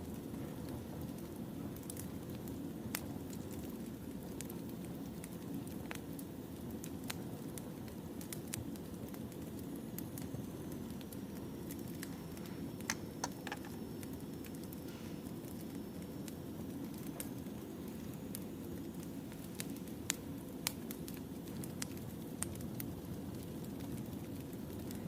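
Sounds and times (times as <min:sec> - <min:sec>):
fire crackles and pops: 0:00.0 - 0:25.0
wood fire rumbling: 0:00.0 - 0:25.0.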